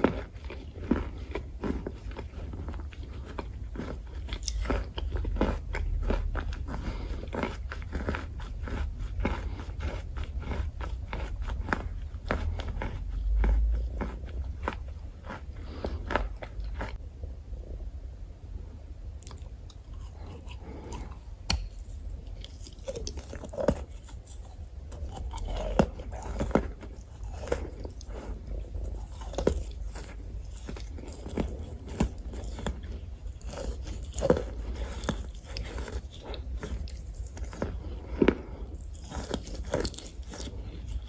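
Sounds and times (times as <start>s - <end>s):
chalk crunching when chewed: 0.0s - 17.0s, 19.2s - 41.0s
low steady hum: 0.0s - 41.0s.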